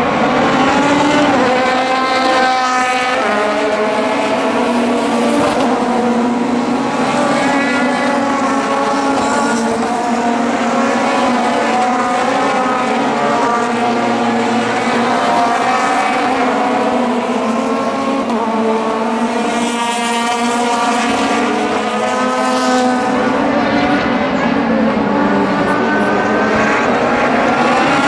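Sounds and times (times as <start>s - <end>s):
race car engines at high revs: 0.0s - 28.0s.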